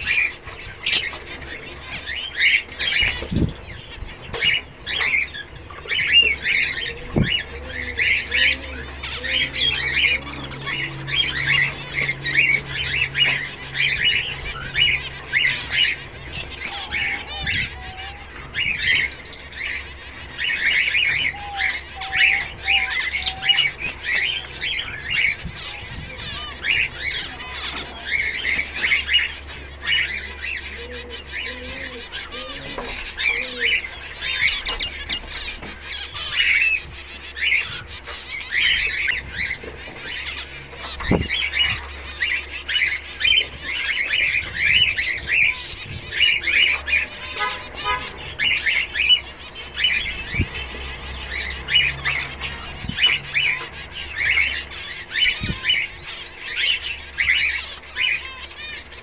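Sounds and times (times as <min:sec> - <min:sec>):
finches calling: 0:00.0 - 0:59.0.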